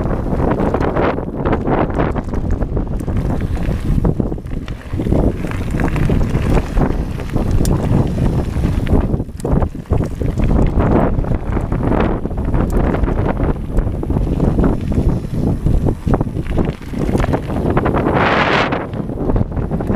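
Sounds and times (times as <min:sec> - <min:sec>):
bike rattle: 0:00.0 - 0:19.9
tyres crunching on gravel: 0:00.0 - 0:19.9
wind buffeting microphone: 0:00.0 - 0:19.9.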